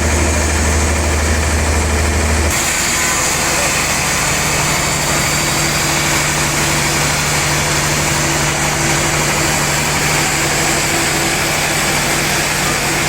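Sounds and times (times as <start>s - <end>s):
sawmill machinery hum: 0.0s - 13.0s
hiss: 2.5s - 13.0s.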